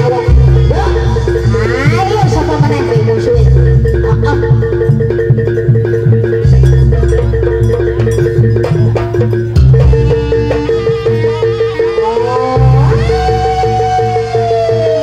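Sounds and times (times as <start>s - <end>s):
metallophones struck: 0.0s - 14.5s.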